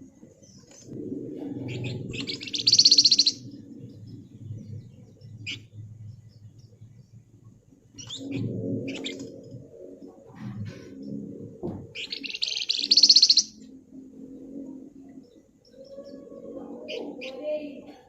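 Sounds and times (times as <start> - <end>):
low steady pitched sound: 0.0 - 16.9.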